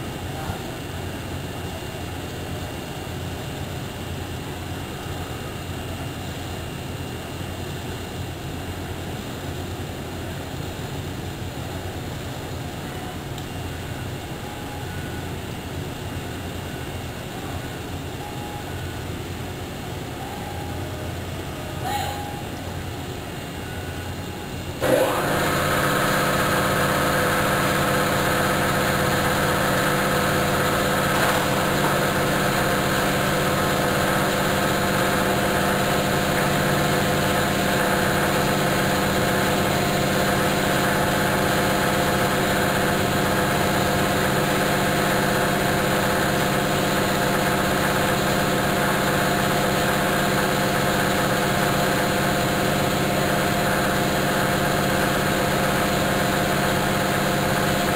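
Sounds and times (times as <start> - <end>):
laser cutting machine humming: 0.0 - 57.9.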